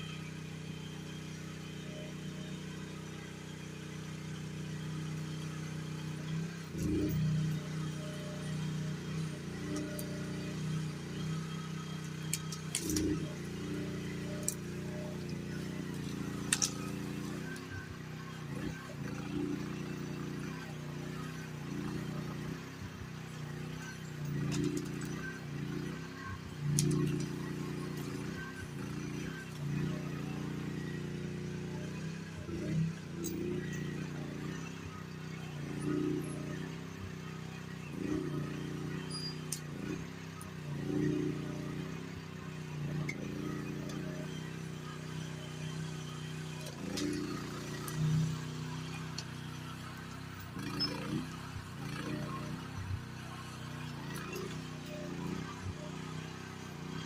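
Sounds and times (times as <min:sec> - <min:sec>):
mini excavator running: 0:00.0 - 0:57.0.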